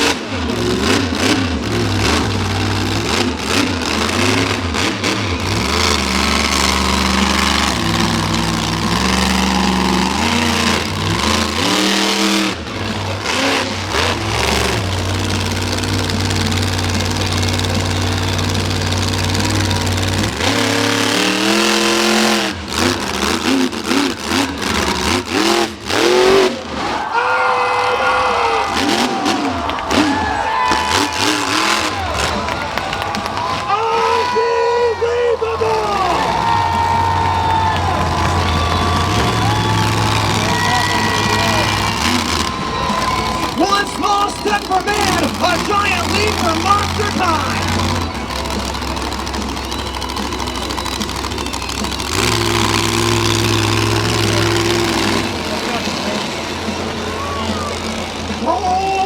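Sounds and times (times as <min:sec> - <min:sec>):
monster truck engine revving: 0:00.0 - 0:59.0.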